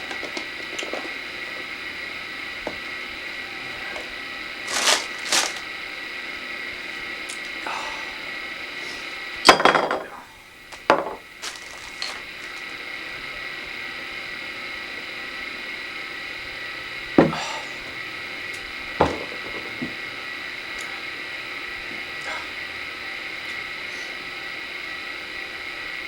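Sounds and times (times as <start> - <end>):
background hum: 0.0 - 26.0
high whine: 0.0 - 26.0.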